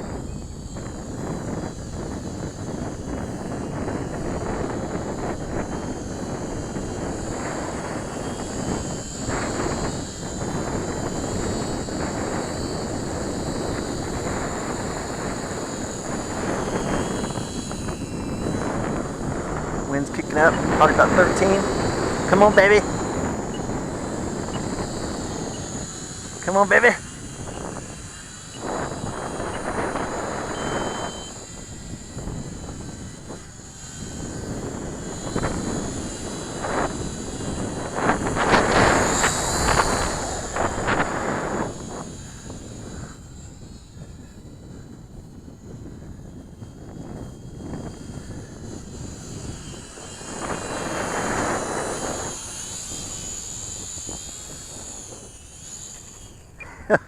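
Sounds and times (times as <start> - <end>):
electric motors whining: 0.0 - 57.0
wind noise on microphone: 0.0 - 57.0.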